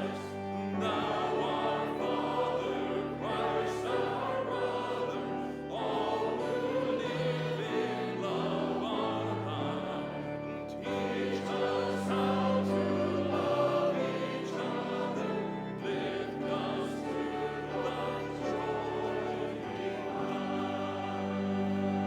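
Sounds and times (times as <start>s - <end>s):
choir singing a hymn: 0.0s - 22.0s
instrumental accompaniment: 0.0s - 22.0s.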